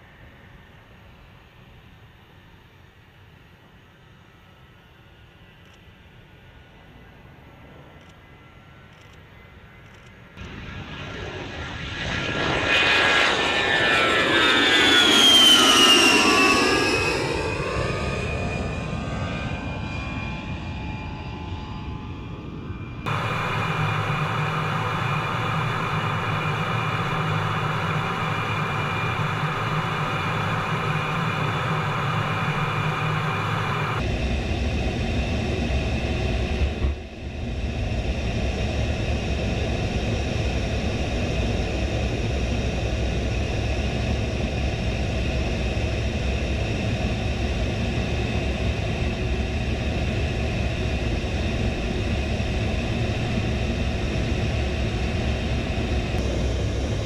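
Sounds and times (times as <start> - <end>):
jet cockpit engine and airflow noise: 0.0 - 57.0.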